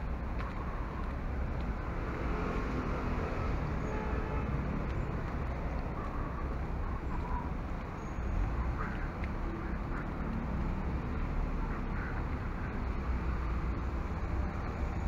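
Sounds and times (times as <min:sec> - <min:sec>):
street ambience: 0:00.0 - 0:15.0.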